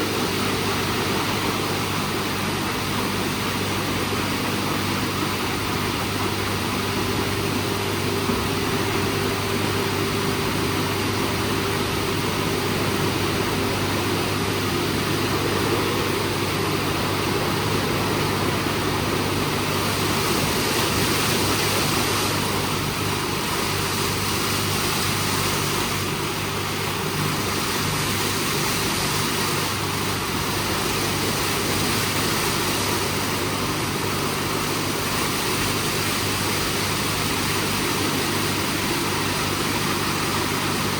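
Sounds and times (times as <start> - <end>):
car wash rushing noise: 0.0 - 40.9
low motor hum: 0.0 - 40.9.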